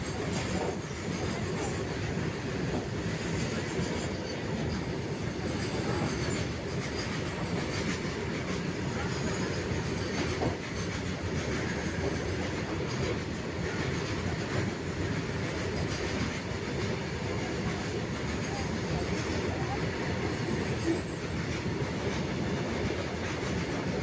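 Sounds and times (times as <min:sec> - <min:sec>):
faint rail clicks: 0:00.0 - 0:24.0
train rumbling on rails: 0:00.0 - 0:24.0.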